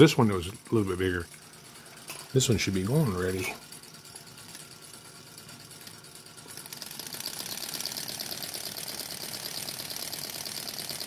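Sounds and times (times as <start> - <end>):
small engine clicking clatter: 0.0 - 11.0.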